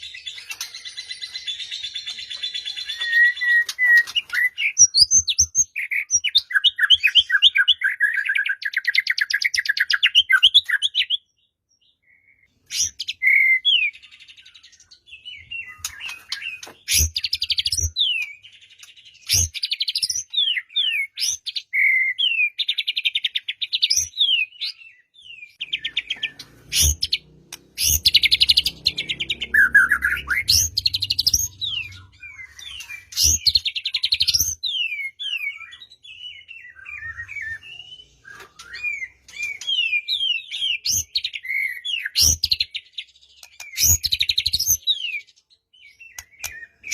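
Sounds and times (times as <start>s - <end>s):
bird singing trills and whistles: 0.0s - 46.9s.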